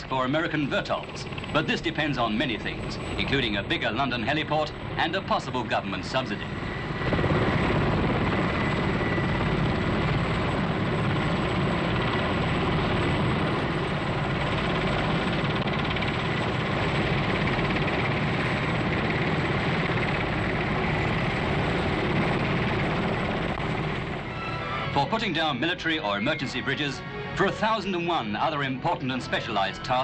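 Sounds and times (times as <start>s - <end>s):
helicopter rotor and engine din: 0.0s - 30.0s.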